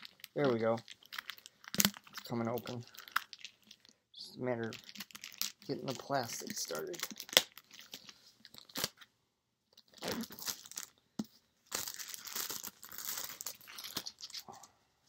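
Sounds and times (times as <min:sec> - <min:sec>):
plastic wrap crinkling and tearing: 0:00.0 - 0:03.9, 0:04.6 - 0:09.0, 0:09.8 - 0:11.0, 0:11.7 - 0:14.7.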